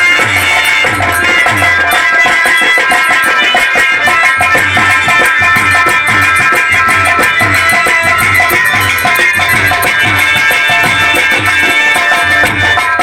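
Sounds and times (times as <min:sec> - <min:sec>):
hand drums beating: 0:00.0 - 0:13.0
harmonium chords: 0:00.0 - 0:13.0.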